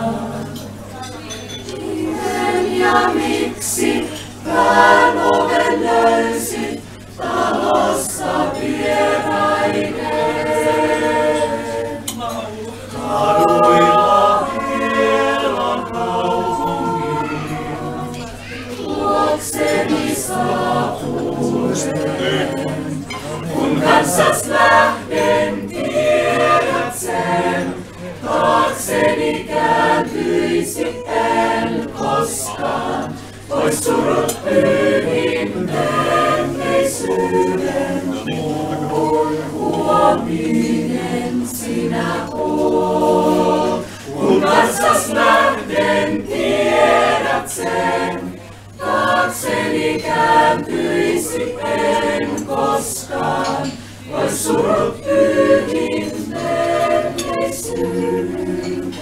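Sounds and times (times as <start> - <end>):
mixed choir singing a cappella: 0.0 - 59.0.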